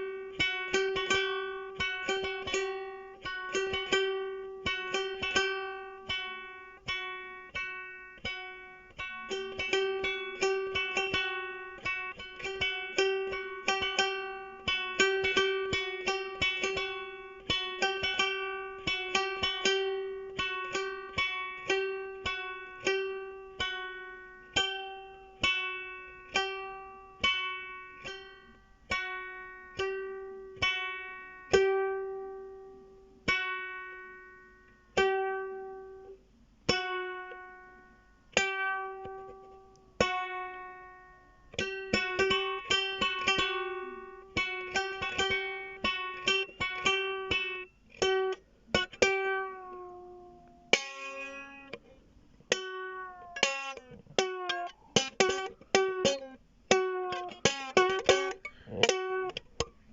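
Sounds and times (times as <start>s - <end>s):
plucked string instrument: 0.0s - 59.9s.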